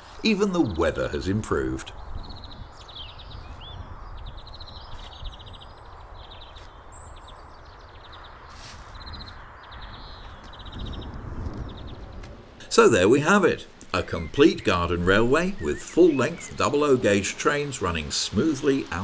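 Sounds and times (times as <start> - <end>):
small birds trilling: 0.0 - 19.0.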